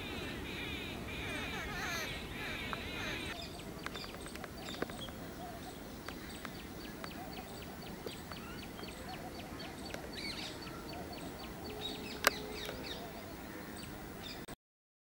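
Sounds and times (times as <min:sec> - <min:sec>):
birds chirping: 0:00.0 - 0:14.5.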